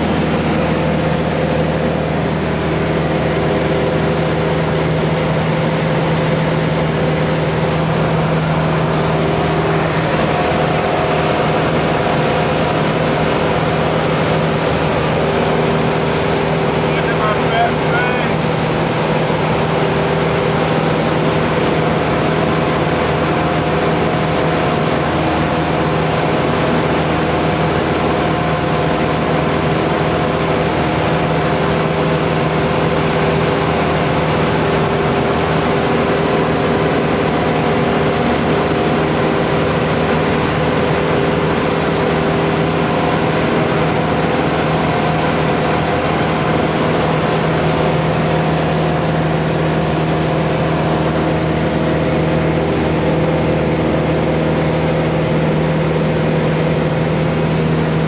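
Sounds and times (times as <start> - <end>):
airplane engine and propeller drone: 0.0 - 58.0
wind and airframe noise: 0.0 - 58.0.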